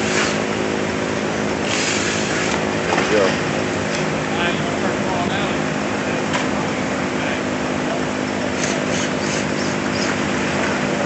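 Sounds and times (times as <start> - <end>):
motorcycle engines running steadily: 0.0 - 11.0.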